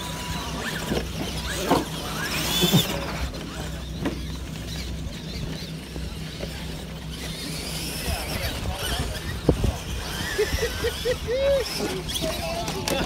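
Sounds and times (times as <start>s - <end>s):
toy truck electric motors whining: 0.0s - 13.0s.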